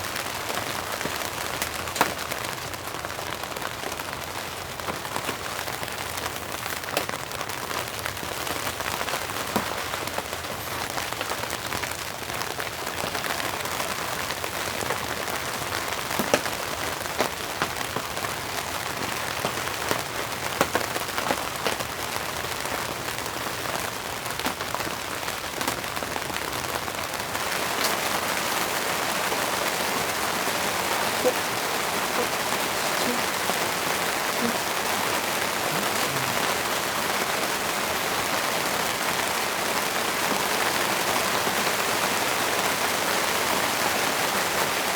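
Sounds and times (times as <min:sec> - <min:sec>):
close raindrops striking: 0:00.0 - 0:44.9
steady rain falling: 0:00.0 - 0:44.9.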